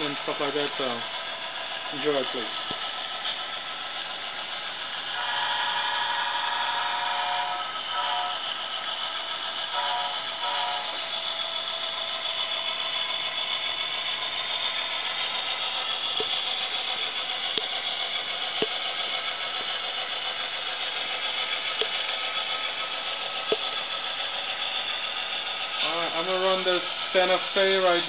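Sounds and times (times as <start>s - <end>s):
diesel engine sound: 0.0s - 28.0s.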